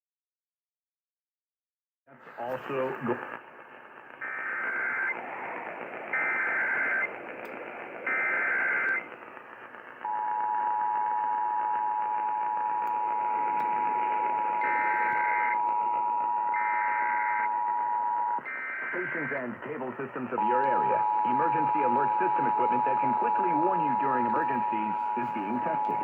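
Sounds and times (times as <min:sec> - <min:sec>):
radio hiss: 0:02.1 - 0:10.2, 0:10.9 - 0:26.0.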